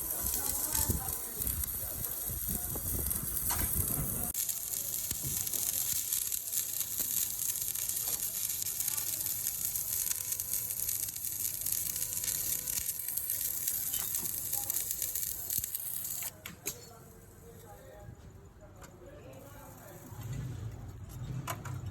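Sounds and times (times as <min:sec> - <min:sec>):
arc welding hiss and crackle: 0:00.0 - 0:18.2, 0:18.8 - 0:21.8.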